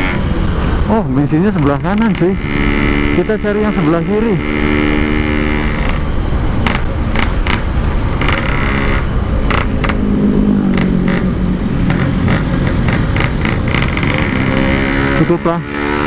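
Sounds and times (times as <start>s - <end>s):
two-stroke motorcycle engine: 1.4s - 16.0s.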